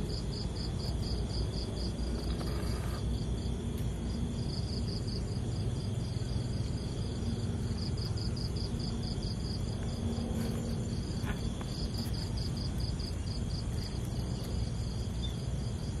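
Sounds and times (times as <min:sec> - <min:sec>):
insects chirping: 0:00.0 - 0:16.0
low background rumble: 0:00.0 - 0:16.0.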